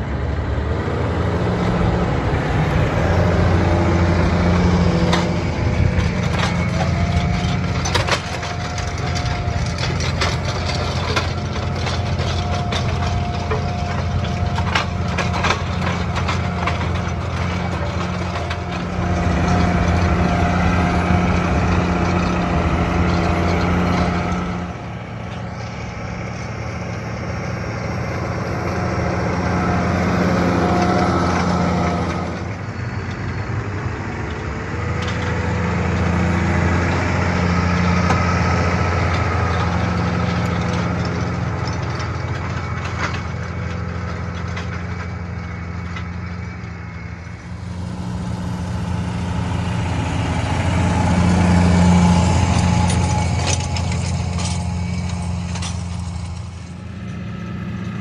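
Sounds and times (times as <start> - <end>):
tractor diesel engine hum: 0.0 - 58.0.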